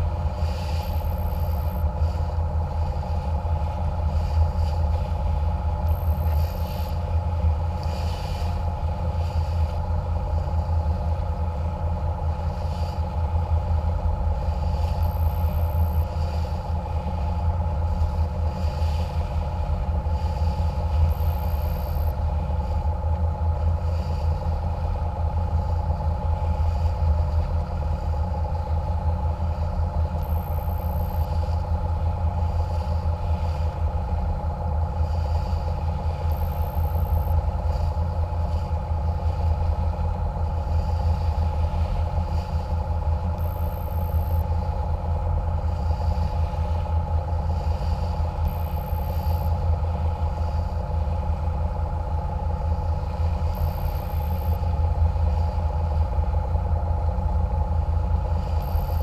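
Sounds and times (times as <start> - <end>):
boat engines rumbling: 0.0 - 59.0.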